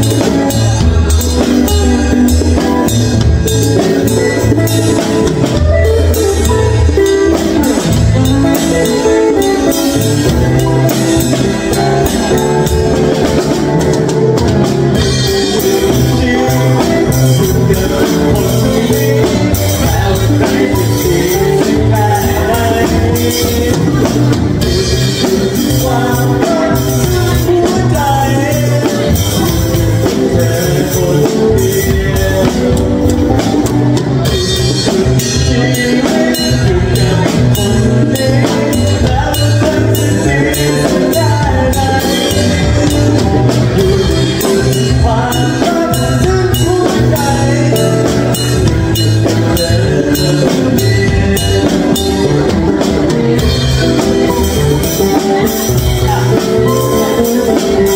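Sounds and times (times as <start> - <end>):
drum kit with cymbals: 0.0 - 57.9
guitar: 0.0 - 57.9
person singing: 0.0 - 57.9.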